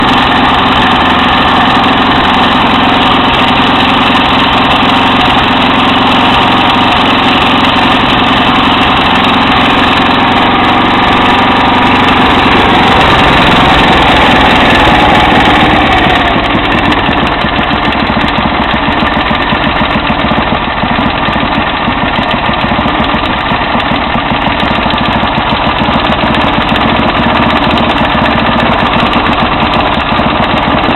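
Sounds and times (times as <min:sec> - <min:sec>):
mower engine running: 0:00.0 - 0:30.9.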